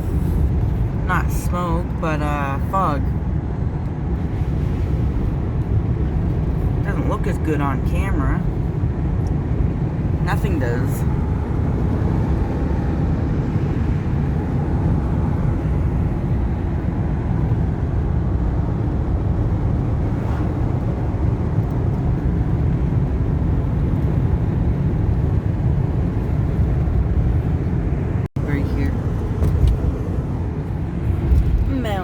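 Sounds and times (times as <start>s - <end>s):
van road and engine rumble: 0.0s - 32.0s.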